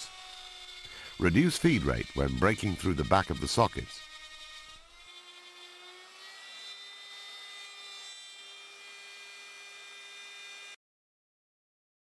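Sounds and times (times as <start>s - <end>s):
router motor whine: 0.0s - 10.8s.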